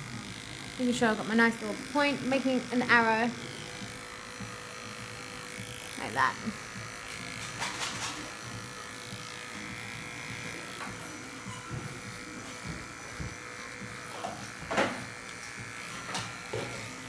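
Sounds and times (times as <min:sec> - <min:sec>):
dog clipper buzzing: 0:00.0 - 0:17.0.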